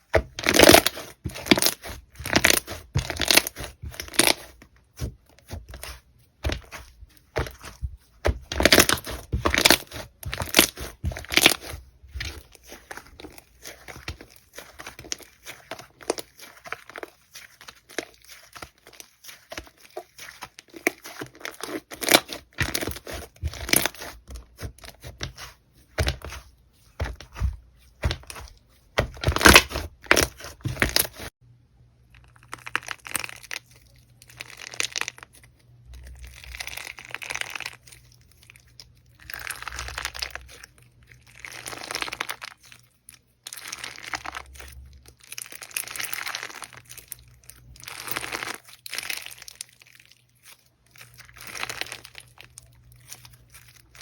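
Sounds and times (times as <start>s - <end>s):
slime crackling and squishing: 0.0s - 31.4s, 32.0s - 54.0s.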